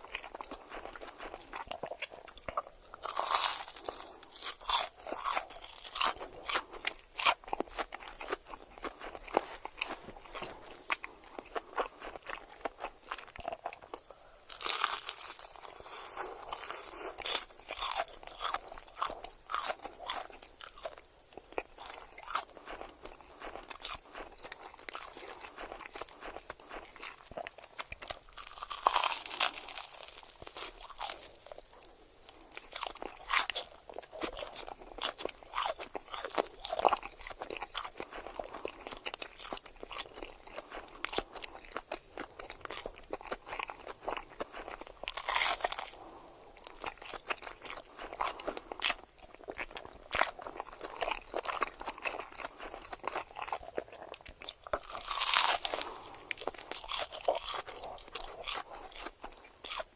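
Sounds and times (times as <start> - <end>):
biting into crisp food: 0.0 - 59.9
person chewing crunchy food: 0.0 - 59.9.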